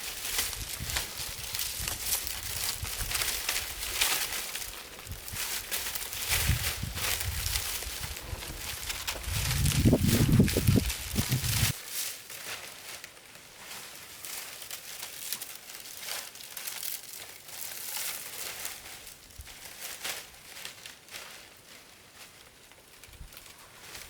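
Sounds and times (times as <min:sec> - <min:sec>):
dry material rustling and crackling: 0:00.0 - 0:24.0.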